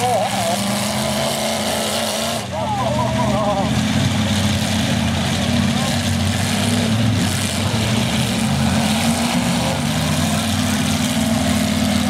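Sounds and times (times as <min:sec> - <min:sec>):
pickup truck engines running: 0:00.0 - 0:12.0.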